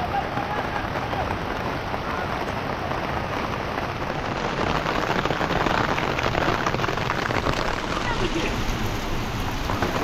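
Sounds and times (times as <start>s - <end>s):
rain drops hitting a surface: 0.0s - 10.0s.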